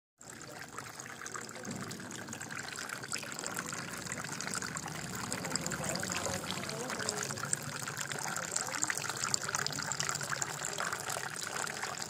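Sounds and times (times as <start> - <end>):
water trickling and splashing: 0.2 - 12.0.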